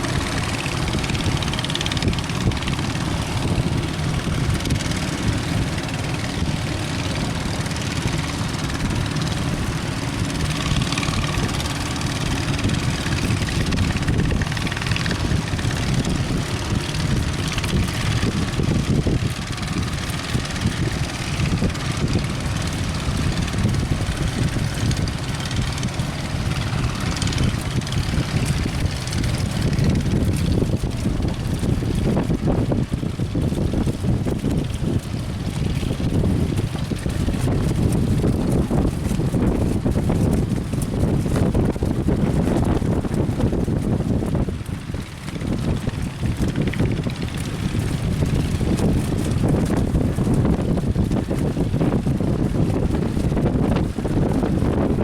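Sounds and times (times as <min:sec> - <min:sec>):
boat engine running: 0:00.0 - 0:55.0
wash of rough water: 0:00.0 - 0:55.0
wind buffeting microphone: 0:00.0 - 0:55.0.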